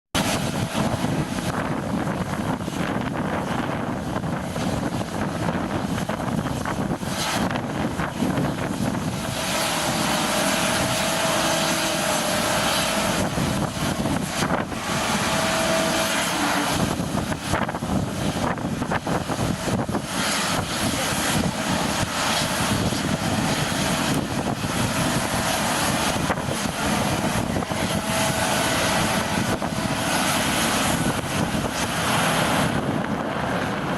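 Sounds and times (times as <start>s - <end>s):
jet engine rushing noise: 0.1s - 33.9s
jet engine whine: 0.1s - 33.9s.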